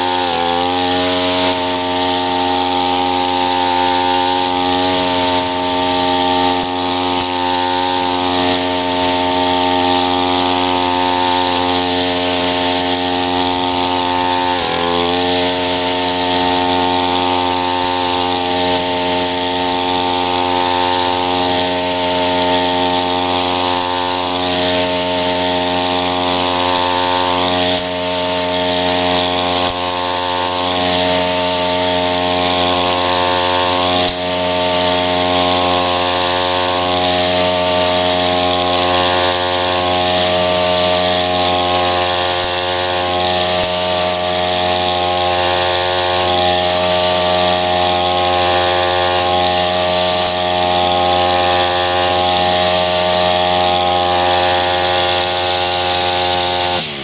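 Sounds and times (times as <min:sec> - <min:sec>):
brush cutter running: 0:00.0 - 0:57.0.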